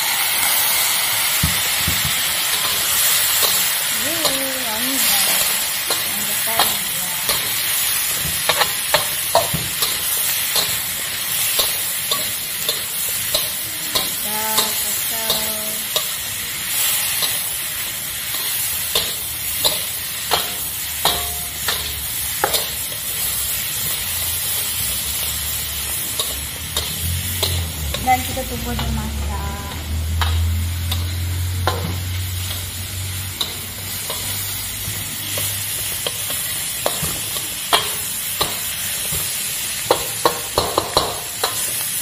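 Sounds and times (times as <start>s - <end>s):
food sizzling in hot oil: 0.0s - 42.0s
metal spatula scraping a wok: 2.3s - 28.9s, 30.0s - 42.0s.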